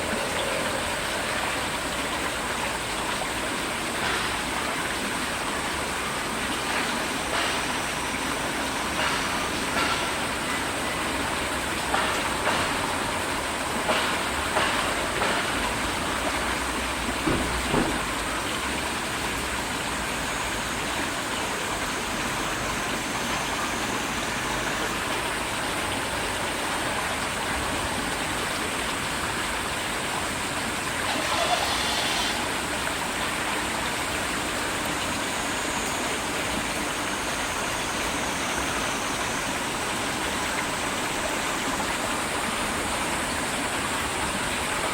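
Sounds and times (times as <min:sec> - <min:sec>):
river water flowing: 0:00.0 - 0:44.9.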